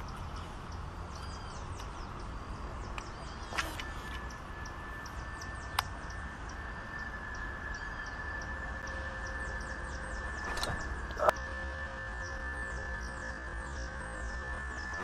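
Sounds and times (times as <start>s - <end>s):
birds chirping: 0.0s - 15.0s
thin high tone: 2.2s - 15.0s.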